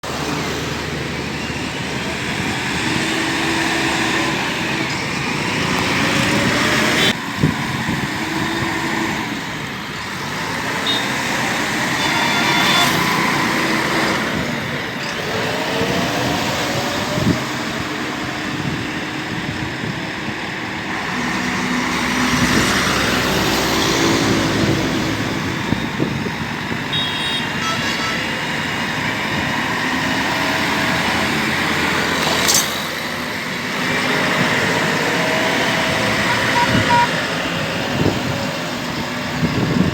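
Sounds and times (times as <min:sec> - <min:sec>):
diesel engines revving: 0:00.0 - 0:39.9.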